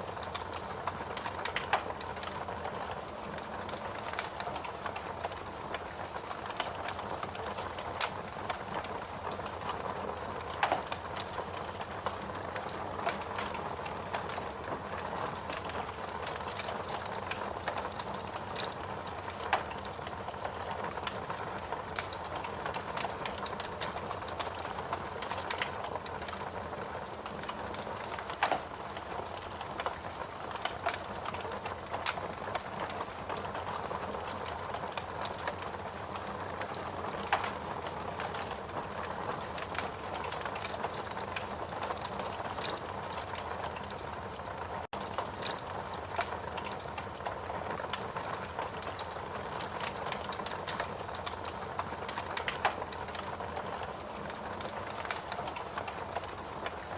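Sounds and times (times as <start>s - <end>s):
fire hissing and crackling: 0.0s - 56.9s
wood fire pops: 0.1s - 56.8s.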